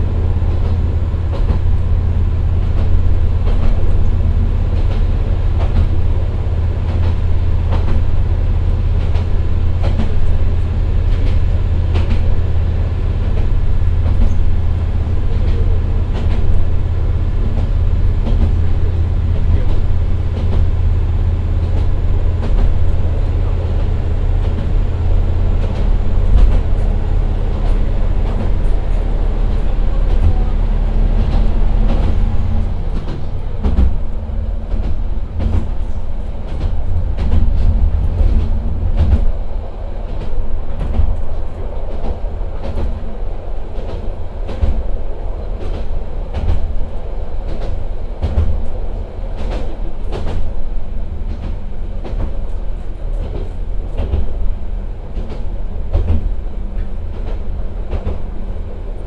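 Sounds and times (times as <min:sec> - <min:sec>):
diesel engine low drone: 0:00.0 - 0:59.0
rail joint clicks: 0:00.0 - 0:59.0
wheel and rail noise: 0:00.0 - 0:59.0.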